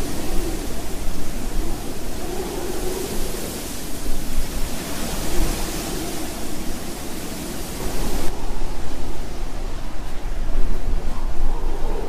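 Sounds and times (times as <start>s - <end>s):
strong gusting wind: 0.0s - 12.0s.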